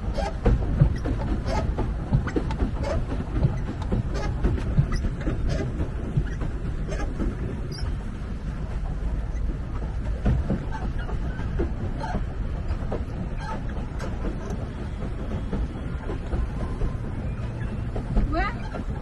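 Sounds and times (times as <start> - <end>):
pedal drive squeaking: 0.0 - 8.1, 9.2 - 19.0
wind and water rumble: 0.0 - 19.0.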